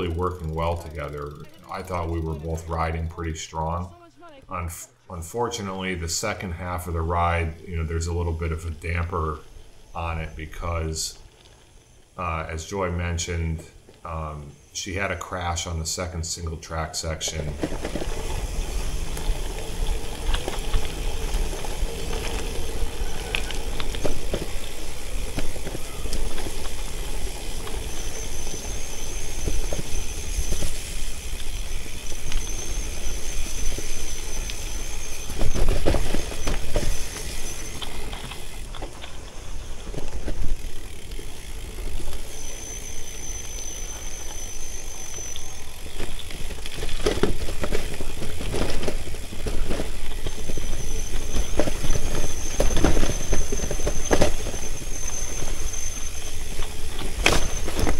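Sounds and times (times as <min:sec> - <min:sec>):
tyres rumbling on dirt: 0:00.0 - 0:57.9.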